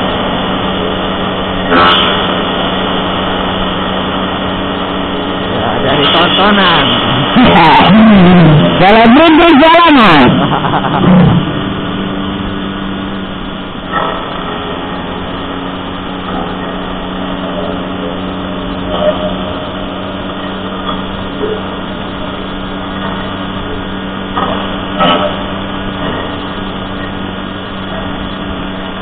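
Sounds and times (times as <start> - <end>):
motorcycle engine cruising: 0.0 - 29.0
road and wind noise: 0.0 - 29.0.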